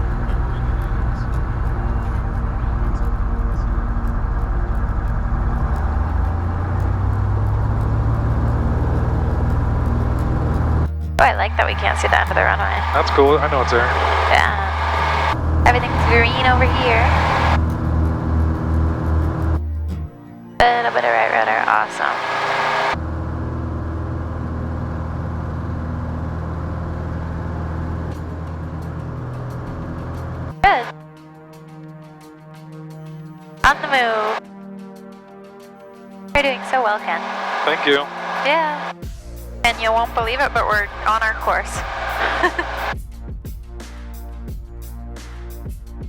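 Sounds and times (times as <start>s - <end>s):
airplane engine drone in cockpit: 0.0s - 30.9s, 33.0s - 34.4s, 35.7s - 43.0s.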